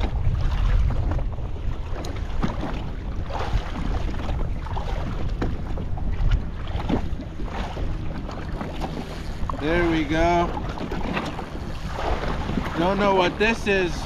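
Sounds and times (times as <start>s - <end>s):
water lapping against boat hull: 0.0s - 14.0s
wind rumbling on microphone: 0.0s - 14.0s.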